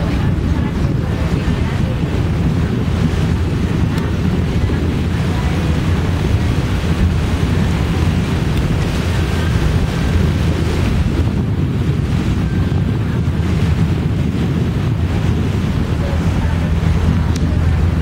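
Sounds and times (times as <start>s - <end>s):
boat motor droning: 0.0s - 18.0s
water rushing: 0.0s - 18.0s
wind buffeting microphone: 0.0s - 18.0s.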